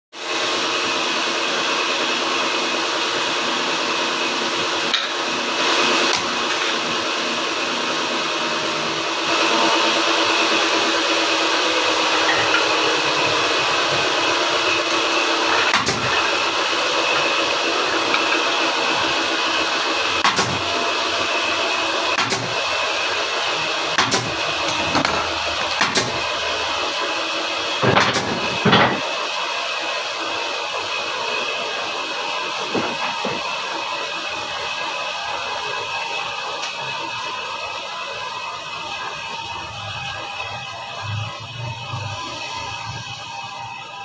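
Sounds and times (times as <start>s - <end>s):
electric woodworking machine running: 0.2s - 44.0s.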